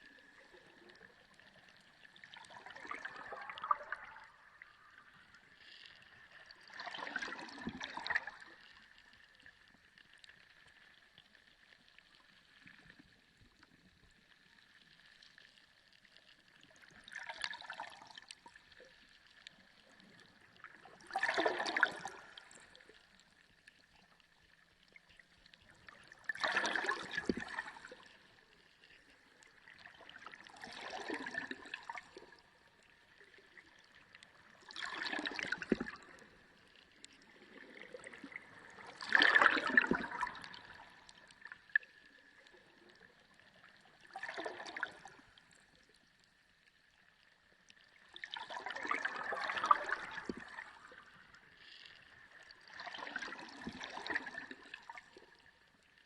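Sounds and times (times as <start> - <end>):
underwater bubbling surges: 0.0 - 10.7, 11.3 - 45.9, 47.8 - 56.0.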